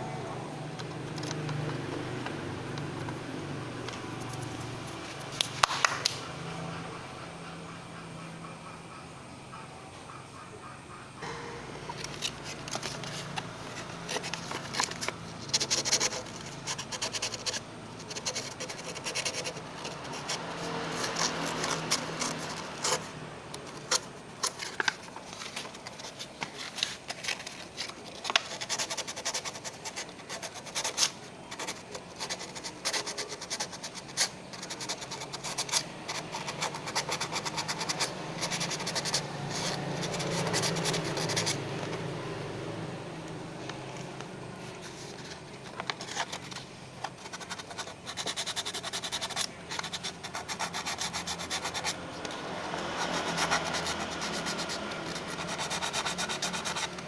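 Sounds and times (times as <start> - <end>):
scratching and rubbing: 0.8 - 6.0, 11.9 - 42.1, 44.7 - 57.0.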